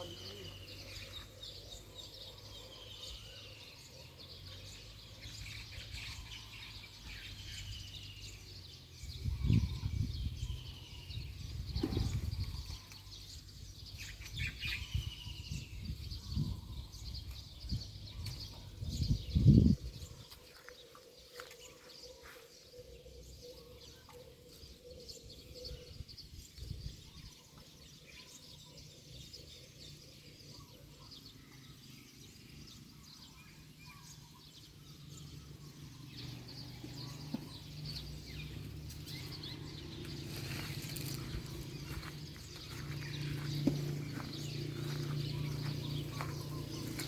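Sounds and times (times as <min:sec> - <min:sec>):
bird chirps: 0:00.0 - 0:47.0.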